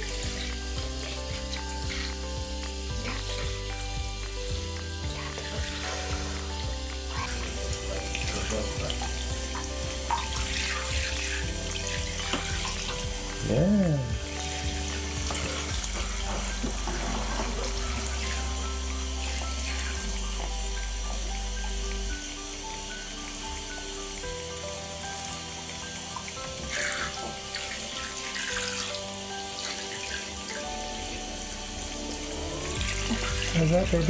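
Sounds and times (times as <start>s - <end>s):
shower head water spraying: 0.0s - 34.0s
soft background music: 0.0s - 34.0s.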